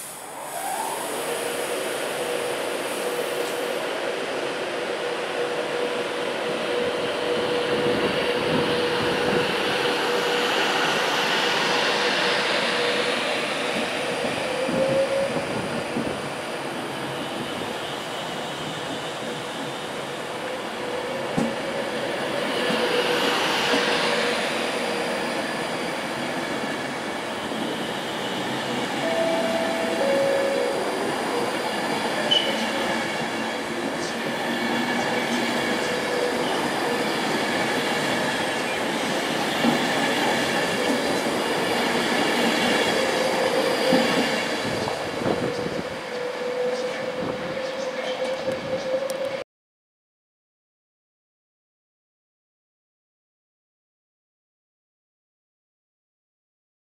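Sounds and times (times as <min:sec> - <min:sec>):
electric train rumbling past: 0:00.0 - 0:49.4.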